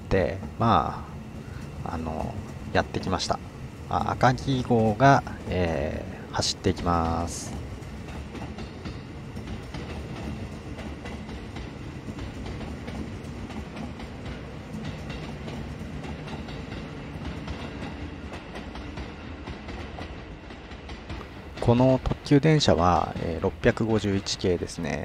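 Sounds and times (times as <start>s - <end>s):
steel wheels rumbling on rail: 0.0s - 25.0s
wheels clacking over rail joints: 0.2s - 24.4s.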